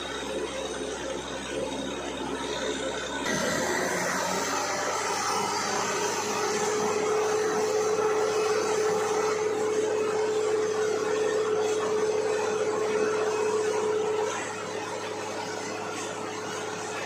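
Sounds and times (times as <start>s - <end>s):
drilling rig running: 0.0s - 17.0s.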